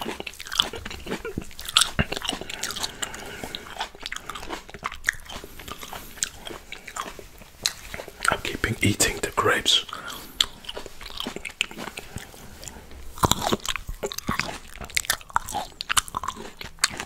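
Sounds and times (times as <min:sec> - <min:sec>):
chewing grapes: 0:00.0 - 0:17.0.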